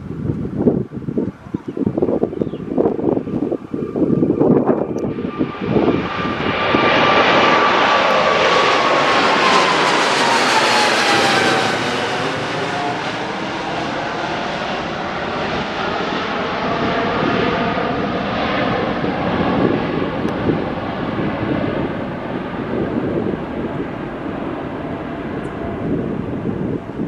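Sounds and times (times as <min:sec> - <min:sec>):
jet engine roar and whine: 0:00.0 - 0:27.0.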